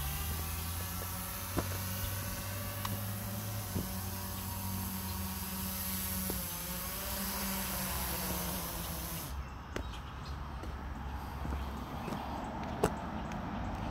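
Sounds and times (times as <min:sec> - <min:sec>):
drone propellers buzzing: 0:00.0 - 0:12.3.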